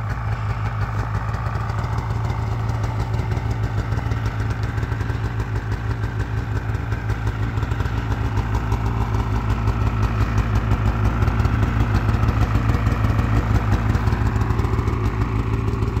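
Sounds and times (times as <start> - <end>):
snowmobile engine idling: 0.0 - 16.0.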